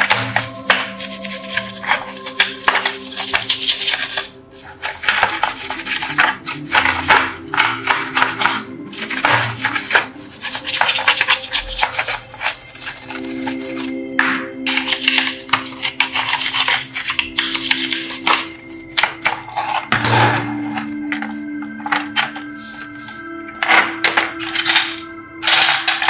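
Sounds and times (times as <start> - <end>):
brush scrubbing: 0.0 - 23.4.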